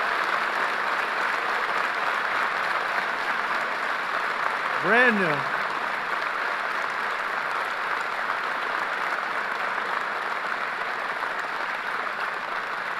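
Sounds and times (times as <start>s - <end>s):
crowd applauding: 0.0s - 12.9s.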